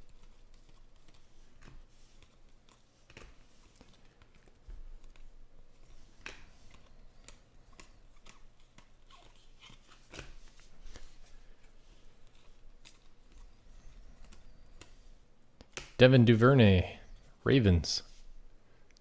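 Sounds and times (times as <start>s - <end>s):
cards flipping by hand: 0.0s - 16.0s.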